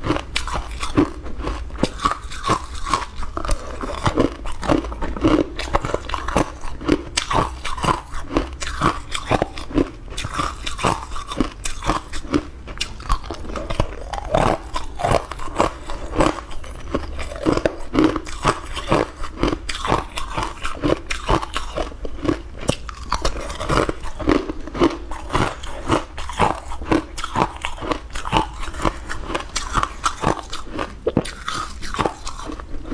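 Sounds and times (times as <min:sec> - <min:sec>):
person crunching ice cubes: 0:00.0 - 0:32.9.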